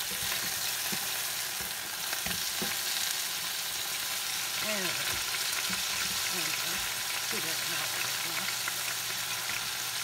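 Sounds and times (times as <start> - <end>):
patties sizzling in a skillet: 0.0 - 10.0.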